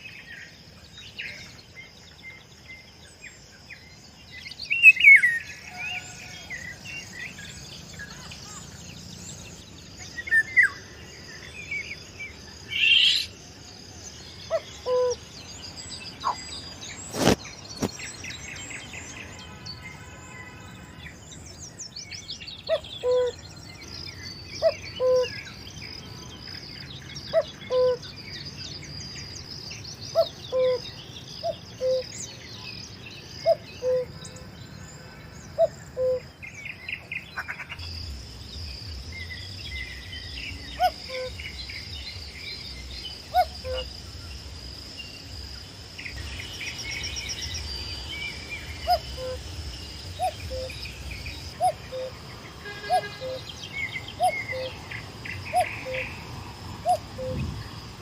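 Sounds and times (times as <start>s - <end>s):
birds calling and chirping: 0.0s - 58.0s
high-pitched insect hum: 0.0s - 58.0s.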